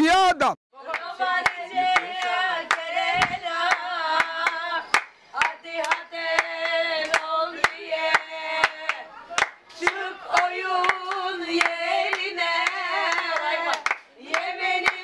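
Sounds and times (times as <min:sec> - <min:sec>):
woman singing: 0:00.8 - 0:09.2, 0:09.8 - 0:15.0
hand claps: 0:00.9 - 0:15.0.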